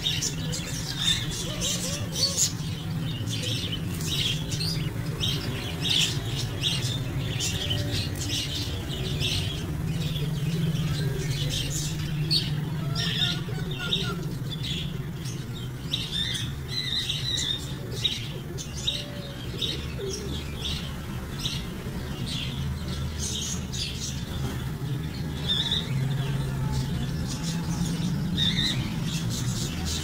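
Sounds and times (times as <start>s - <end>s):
parrots chirping and squawking: 0.0s - 30.0s.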